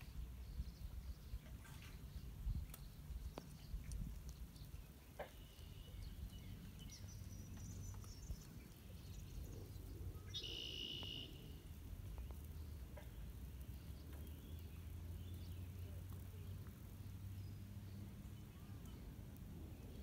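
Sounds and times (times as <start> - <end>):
faint birds calling: 0.4 - 19.2.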